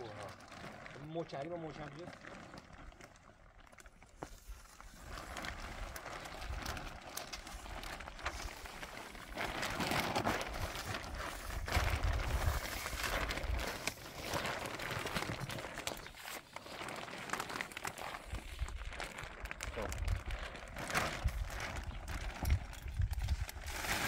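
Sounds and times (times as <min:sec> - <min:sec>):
plastic sheeting rustling: 0:00.0 - 0:24.0.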